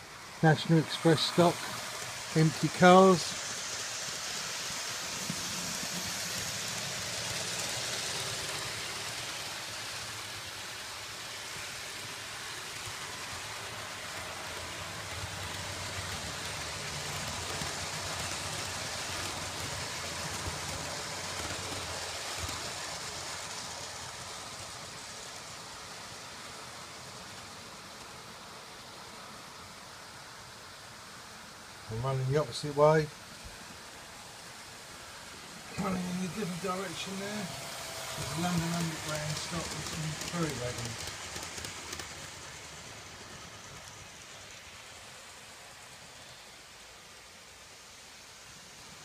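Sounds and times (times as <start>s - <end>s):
model train running on track: 0.0s - 49.0s.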